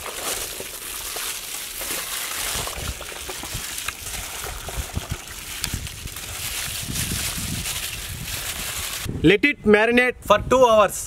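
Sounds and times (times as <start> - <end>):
hands squelching chicken in marinade: 0.0 - 9.1.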